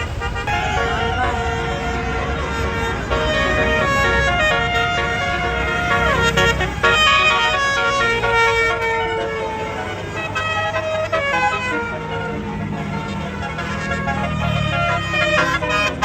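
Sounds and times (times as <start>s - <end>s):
bus engine rumbling: 0.0s - 16.0s
multi-tone trumpet horn melody: 0.0s - 16.0s.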